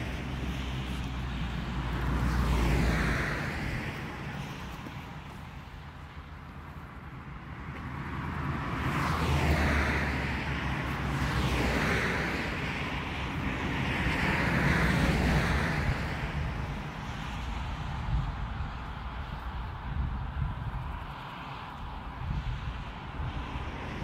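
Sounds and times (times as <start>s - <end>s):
road vehicles passing: 0.0s - 24.0s
wind noise: 0.0s - 24.0s.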